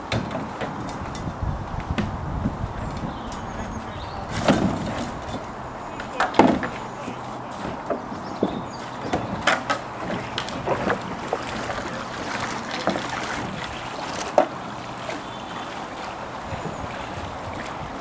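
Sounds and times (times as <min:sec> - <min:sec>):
paddles knocking against kayak hull: 0:00.0 - 0:02.2, 0:02.9 - 0:18.0
water and paddling: 0:00.0 - 0:18.0.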